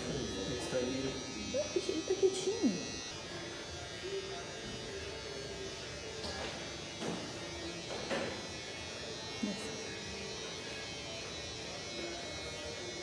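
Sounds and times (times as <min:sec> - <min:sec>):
small electric motor buzzing: 0:00.0 - 0:13.0.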